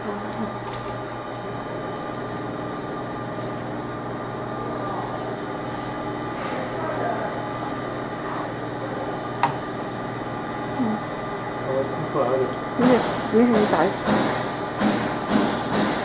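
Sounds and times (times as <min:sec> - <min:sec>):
laser marking machine hum: 0:00.0 - 0:16.0.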